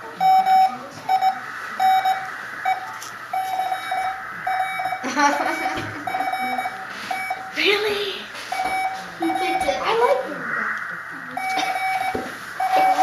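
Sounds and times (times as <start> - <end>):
morse code beeps: 0.2 - 10.0, 11.3 - 13.0.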